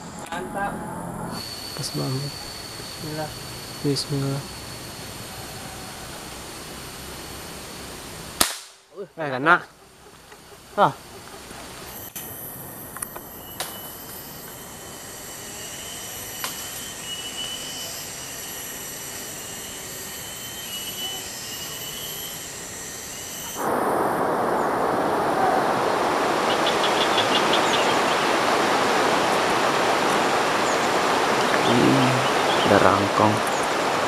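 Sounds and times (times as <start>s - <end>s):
insects buzzing: 0.0s - 34.0s
loud rushing hiss: 1.4s - 34.0s.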